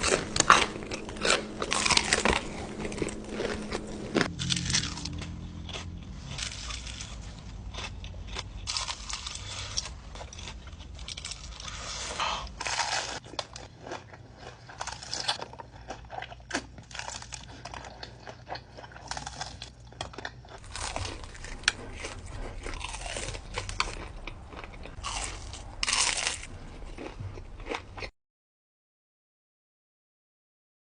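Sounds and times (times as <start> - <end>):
crunchy chewing: 0.0 - 28.1.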